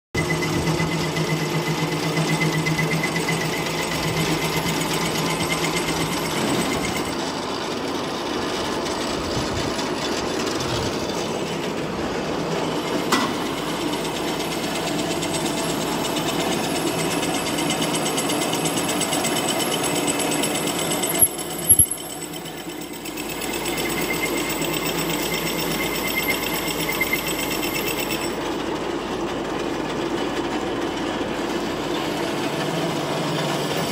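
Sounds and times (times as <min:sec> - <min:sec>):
lathe running with whine: 0:00.2 - 0:33.9.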